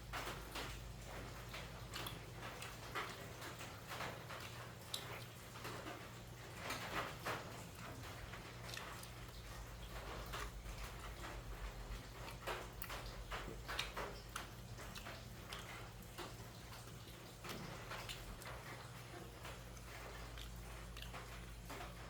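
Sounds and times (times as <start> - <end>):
person chewing and lip smacking: 0.2 - 22.0.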